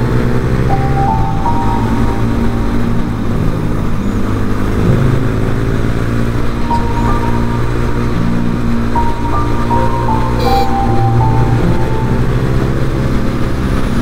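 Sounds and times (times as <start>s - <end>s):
background music with simple melody: 0.0s - 14.0s.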